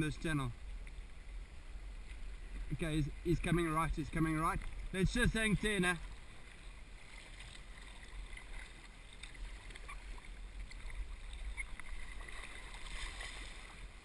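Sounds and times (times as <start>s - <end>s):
river water rushing and splashing: 0.0s - 14.0s
paddle strokes in water: 0.3s - 14.0s.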